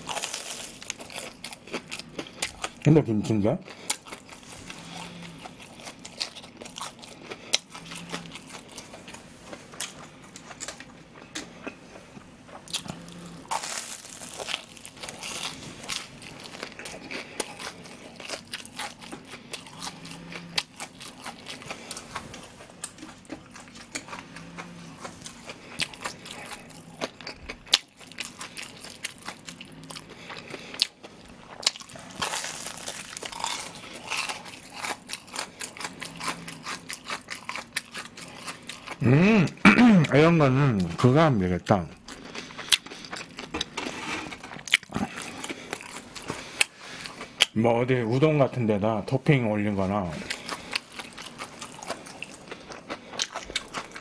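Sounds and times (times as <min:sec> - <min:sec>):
chewing crunchy fried cutlet: 0:00.0 - 0:47.6, 0:50.2 - 0:54.0.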